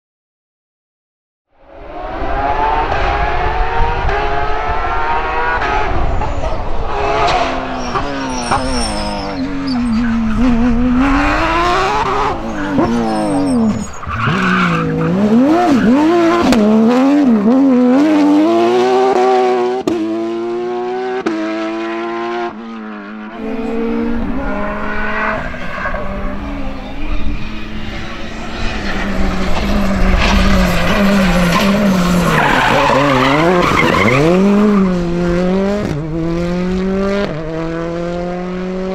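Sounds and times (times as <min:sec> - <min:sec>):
rally car engines revving: 0:01.7 - 0:38.9.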